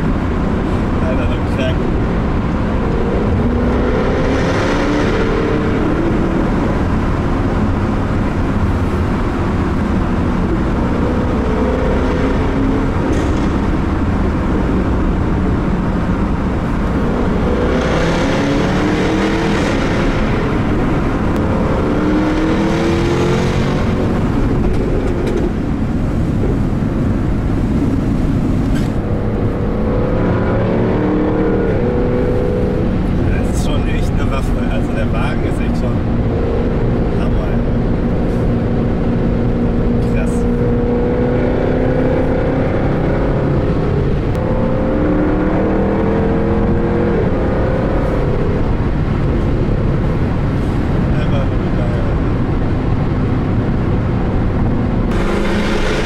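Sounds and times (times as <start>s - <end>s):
car engine accelerating in tunnel: 0.0s - 56.0s.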